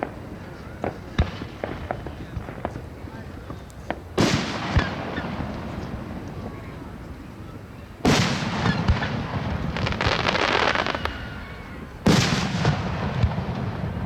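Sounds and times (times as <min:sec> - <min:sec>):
fireworks booming: 0:00.0 - 0:06.6, 0:08.0 - 0:14.0
fireworks crackling: 0:00.0 - 0:07.3, 0:08.0 - 0:14.0.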